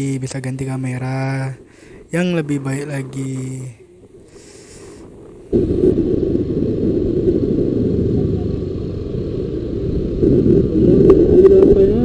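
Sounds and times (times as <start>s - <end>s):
wind rumble on microphone: 0.0s - 12.0s
motorcycle running: 0.7s - 12.0s.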